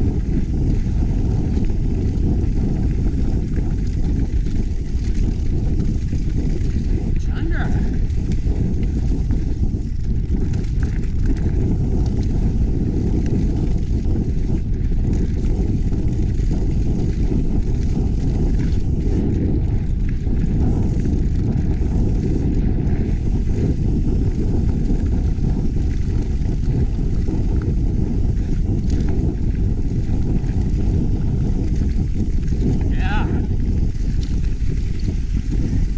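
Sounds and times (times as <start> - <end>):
bike tyre noise: 0.0 - 35.9
wind on microphone: 0.0 - 35.9.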